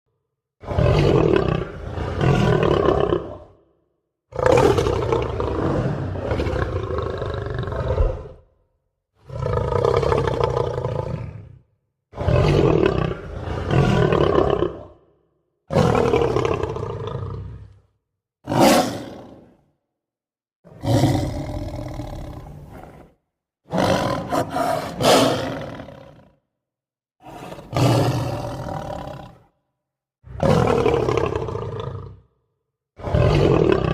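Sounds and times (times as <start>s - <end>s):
lion roaring: 0.6s - 3.6s, 4.3s - 8.5s, 9.2s - 15.1s, 15.7s - 17.8s, 18.5s - 19.6s, 20.7s - 26.4s, 27.2s - 29.5s, 30.3s - 32.3s, 33.0s - 33.9s.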